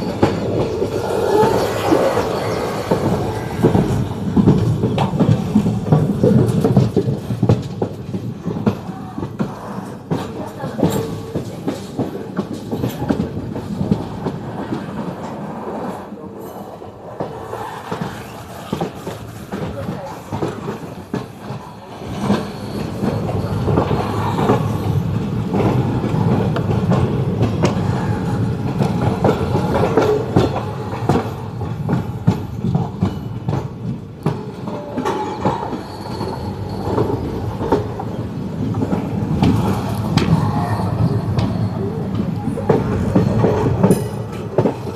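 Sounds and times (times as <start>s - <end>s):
train rumble: 0.0s - 44.9s
wheels clacking over rail joints: 0.0s - 44.9s.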